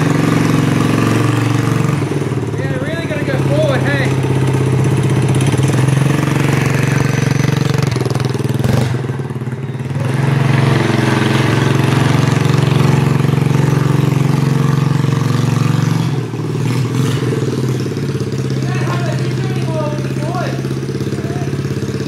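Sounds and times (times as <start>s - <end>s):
monowheel motor running: 0.0s - 22.0s.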